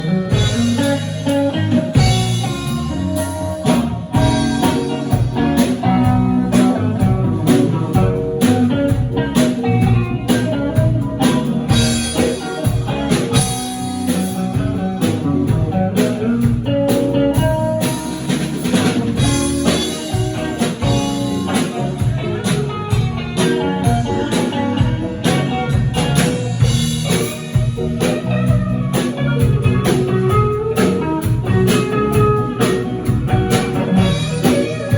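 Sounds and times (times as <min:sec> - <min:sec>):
guitar: 0:00.0 - 0:34.9.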